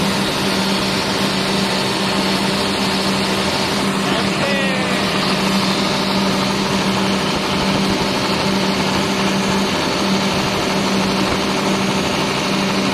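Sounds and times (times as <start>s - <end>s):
engine running steadily: 0.0s - 12.9s.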